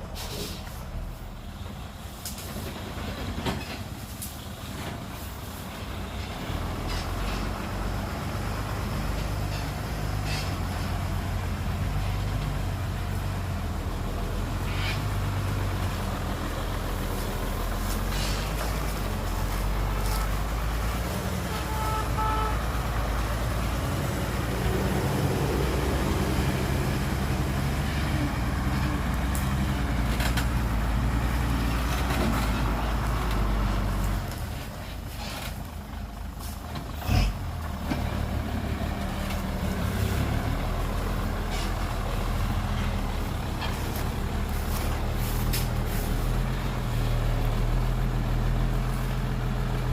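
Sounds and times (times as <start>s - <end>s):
diesel truck engine running: 0.0s - 49.9s.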